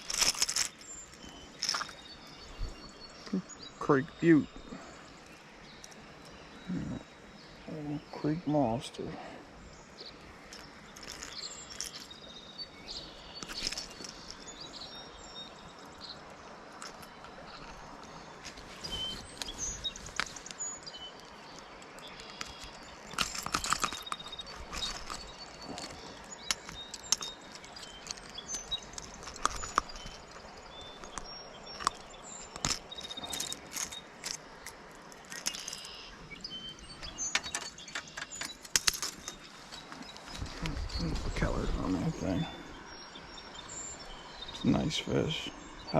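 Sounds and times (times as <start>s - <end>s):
birds chirping: 0.0s - 45.9s
creek running: 0.0s - 45.9s.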